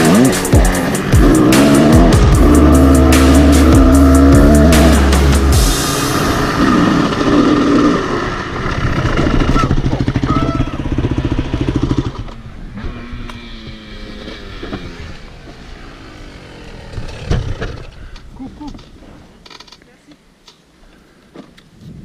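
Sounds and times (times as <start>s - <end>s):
dirt bike engine slowing to idle: 0.0s - 18.2s.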